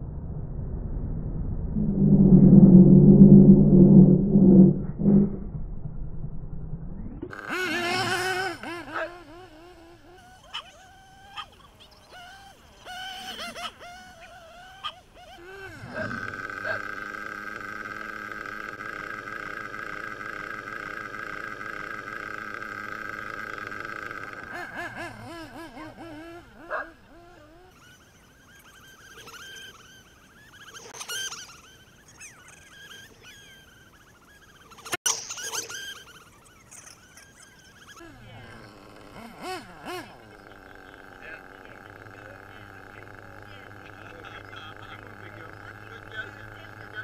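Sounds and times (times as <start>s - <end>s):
rc buggy engine whining: 6.4s - 47.0s.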